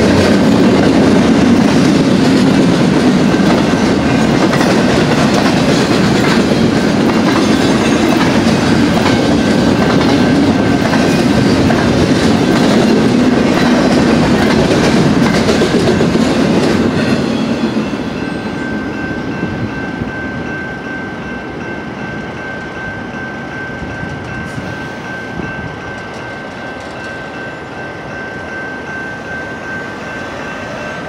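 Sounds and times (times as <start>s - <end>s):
crossing warning bell ringing: 0.0s - 31.0s
freight train rumbling past: 0.0s - 31.0s.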